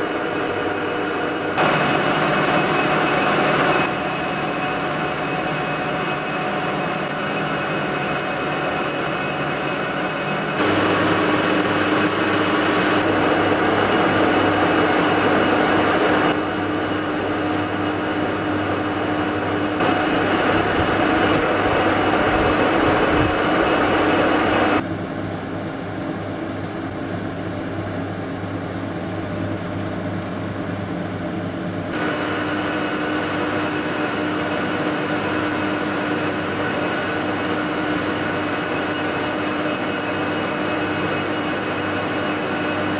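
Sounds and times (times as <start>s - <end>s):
machine humming: 0.0s - 24.8s, 31.9s - 42.9s.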